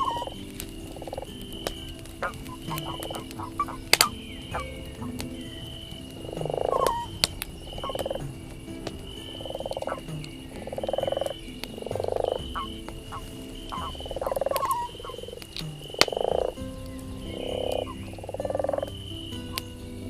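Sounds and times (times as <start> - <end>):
campfire crackling and popping: 0.0 - 20.0
frogs croaking: 0.0 - 20.0.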